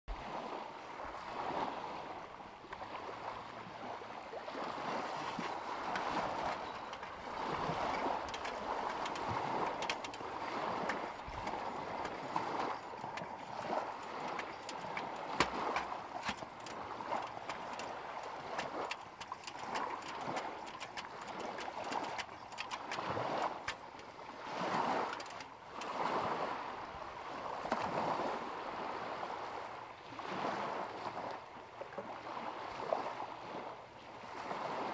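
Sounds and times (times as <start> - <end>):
waves lapping at shore: 0.1 - 34.9.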